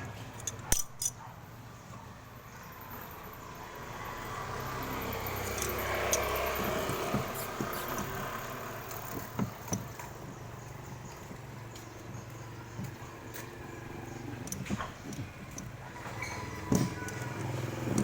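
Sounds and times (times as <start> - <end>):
motor vehicle passing by: 2.8 - 18.0.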